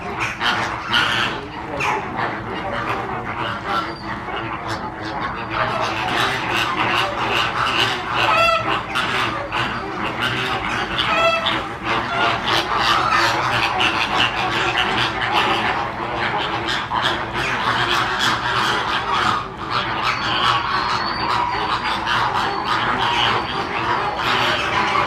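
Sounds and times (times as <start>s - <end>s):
flock of flamingos honking: 0.0s - 25.0s.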